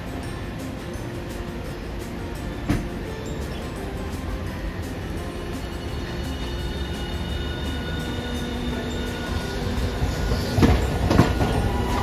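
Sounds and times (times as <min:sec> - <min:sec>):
tram traction motors whining: 0:00.0 - 0:12.0.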